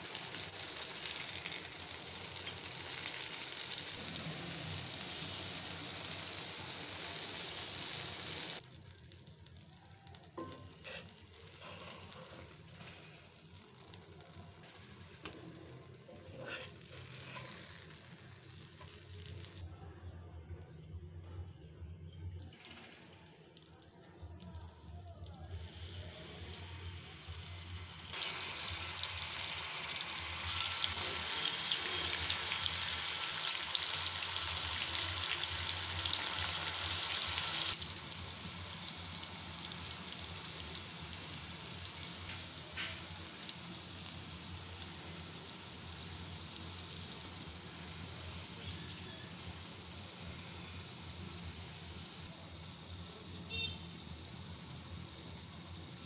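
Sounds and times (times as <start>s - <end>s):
hot oil sizzling in a wok: 0.0s - 19.6s, 24.5s - 56.0s.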